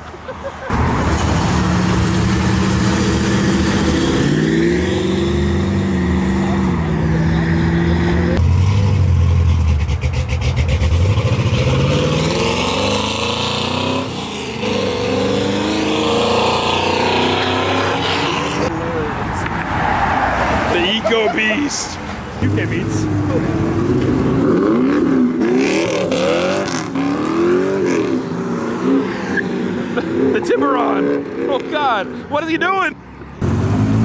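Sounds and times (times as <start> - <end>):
car engines accelerating hard: 0.6 - 32.3, 33.1 - 34.0.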